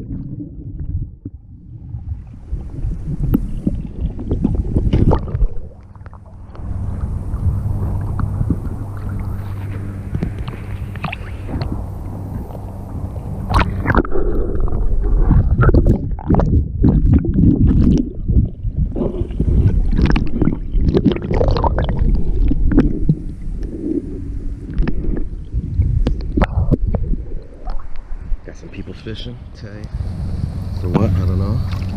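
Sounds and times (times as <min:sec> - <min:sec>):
muffled underwater hum: 0:00.0 - 0:31.9
water sloshing and gurgling: 0:00.0 - 0:31.9.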